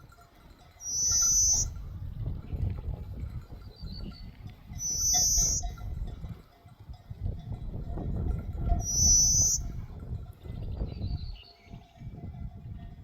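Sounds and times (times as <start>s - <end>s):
low rumble of wind and movement: 0.0s - 13.0s.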